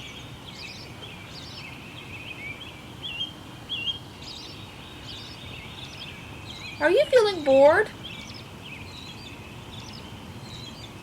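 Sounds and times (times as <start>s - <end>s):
birds chirping and whistling: 0.0s - 11.0s
steady background hiss: 0.0s - 11.0s.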